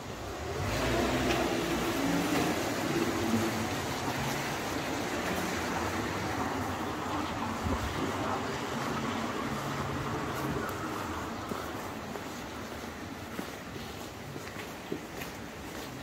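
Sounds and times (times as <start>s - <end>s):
tyres hissing on wet paving: 0.1s - 16.0s.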